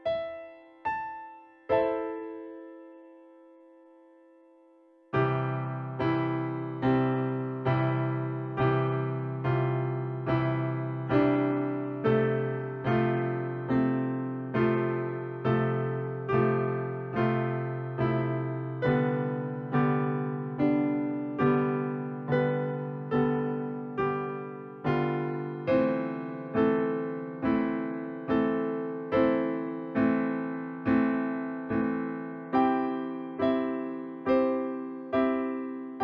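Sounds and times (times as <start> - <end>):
piano notes: 0.0 - 36.0.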